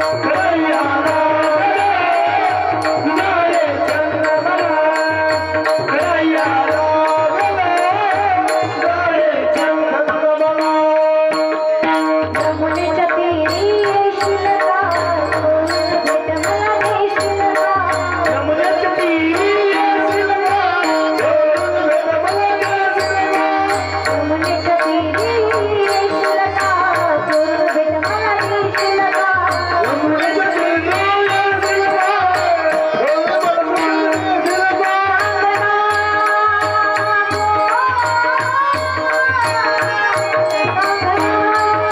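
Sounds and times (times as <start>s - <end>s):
hand drum: 0.0s - 41.9s
harmonium tones: 0.0s - 41.9s
woman singing: 0.0s - 41.9s.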